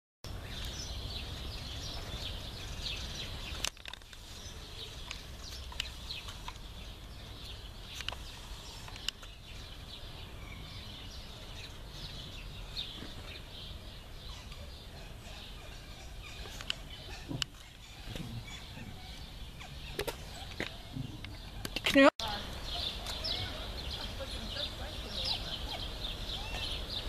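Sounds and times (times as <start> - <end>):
small birds chirping: 0.3 - 27.0.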